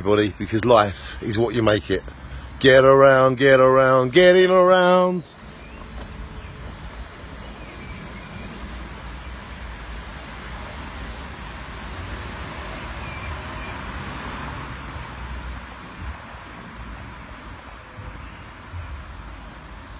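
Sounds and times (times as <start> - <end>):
road traffic hiss and rumble: 0.0 - 19.9.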